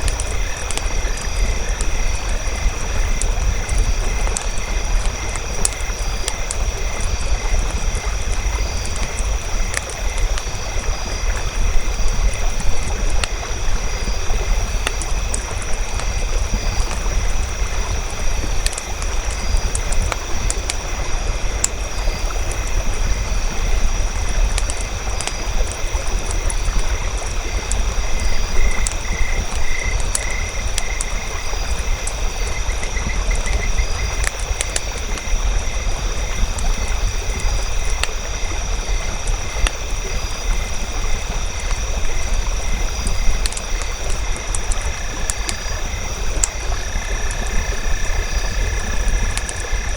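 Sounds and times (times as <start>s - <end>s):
campfire crackling and popping: 0.0s - 49.9s
night insects trilling: 0.0s - 49.9s.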